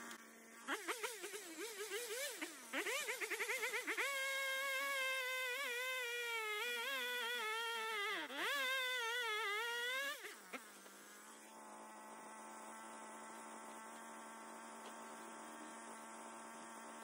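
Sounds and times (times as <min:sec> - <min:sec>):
chainsaw cutting wood: 0:00.0 - 0:17.0
chainsaw idling: 0:00.0 - 0:17.0.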